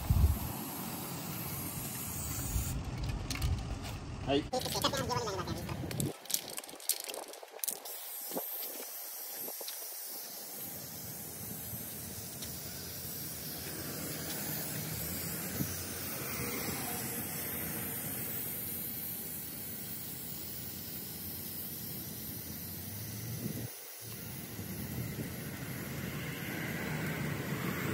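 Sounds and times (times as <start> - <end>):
spray paint can hissing: 0.0 - 2.8, 4.6 - 27.9.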